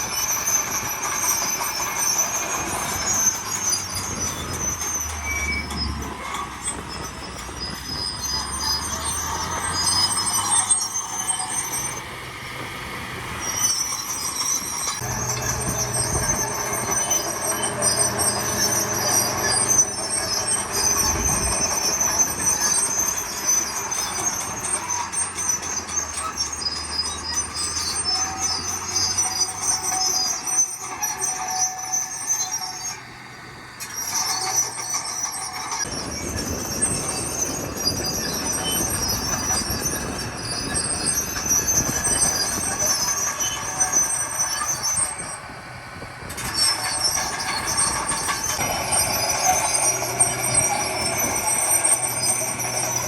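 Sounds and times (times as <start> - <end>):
diesel engine running: 0.0 - 32.0, 32.6 - 53.0
high-pitched metallic squealing: 0.0 - 53.0.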